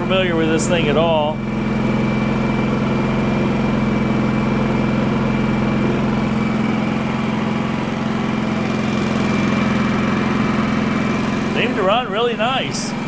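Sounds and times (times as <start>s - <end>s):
generator engine hum: 0.0s - 13.0s.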